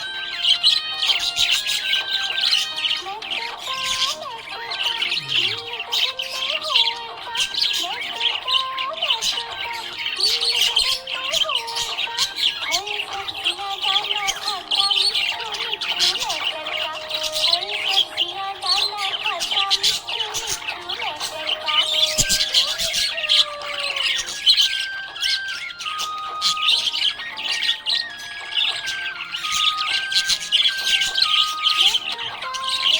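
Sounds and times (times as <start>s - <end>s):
background music: 0.0s - 32.9s
budgerigars chirping and squawking: 0.0s - 32.9s.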